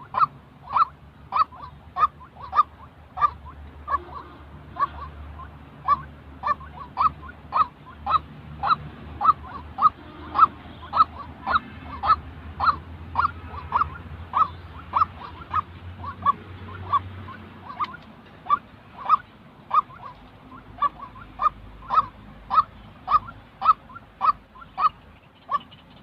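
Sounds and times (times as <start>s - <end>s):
waterhen harsh honking calls: 0.0s - 26.0s.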